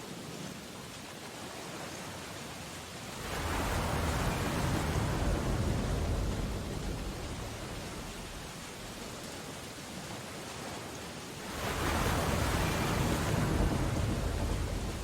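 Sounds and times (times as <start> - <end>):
ocean surf rushing: 3.0 - 15.0.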